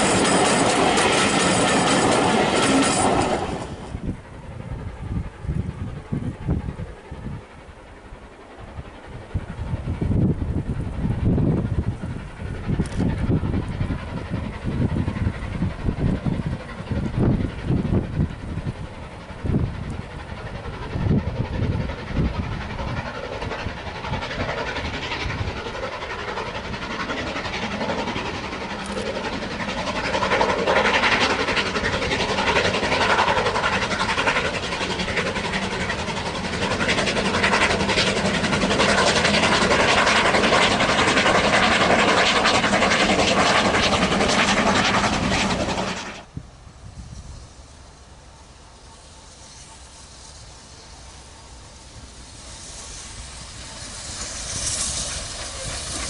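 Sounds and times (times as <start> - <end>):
steam locomotive passing: 0.0 - 56.0.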